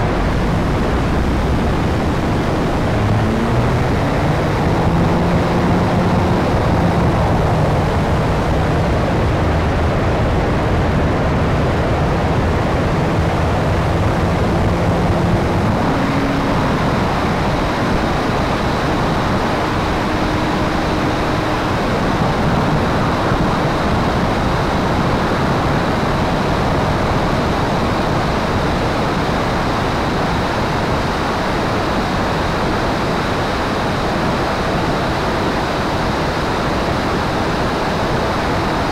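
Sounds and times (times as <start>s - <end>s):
wind rushing over camera: 0.0s - 38.9s.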